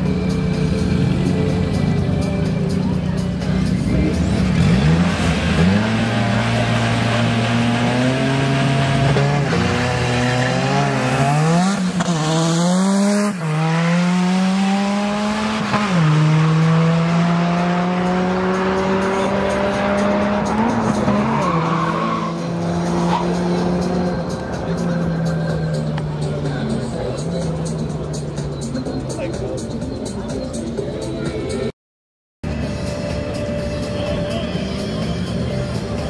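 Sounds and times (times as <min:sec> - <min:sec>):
race car engines revving: 0:00.0 - 0:31.6.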